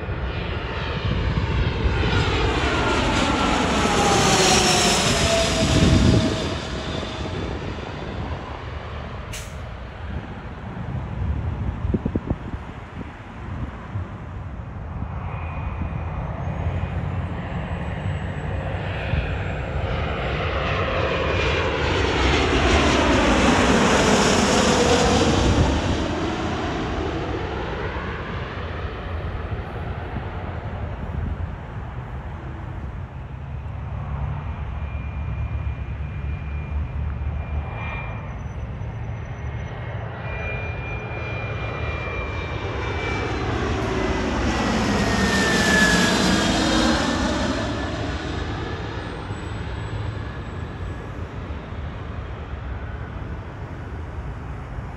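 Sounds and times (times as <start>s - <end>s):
jet engines with high whine: 0.0s - 54.9s
jet whooshing overhead: 0.0s - 54.9s.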